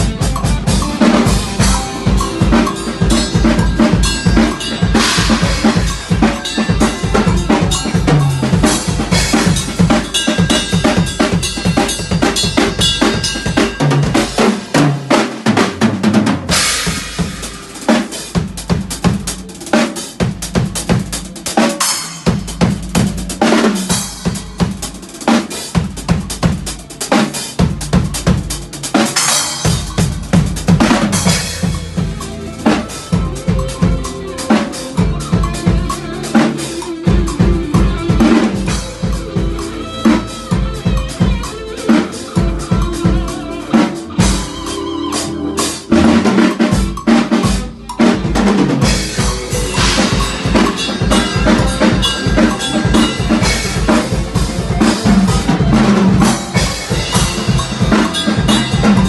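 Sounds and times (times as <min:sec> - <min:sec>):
drum kit fast groove: 0:00.0 - 0:59.0.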